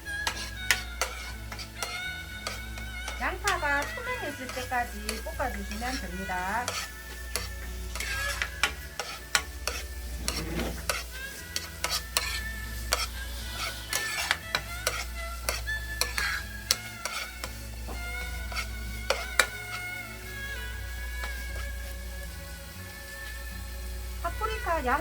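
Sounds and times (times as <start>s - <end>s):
background music: 0.0s - 25.0s
light sizzle: 0.0s - 25.0s
utensil scraping a frying pan: 0.0s - 25.0s.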